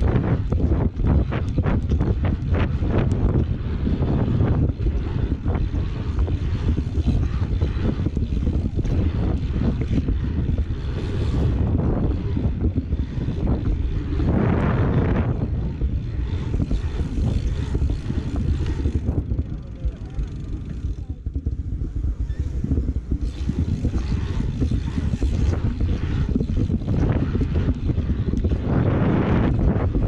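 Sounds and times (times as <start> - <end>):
bike tyres on asphalt: 0.0 - 30.0
wind rumbling on microphone: 0.0 - 30.0.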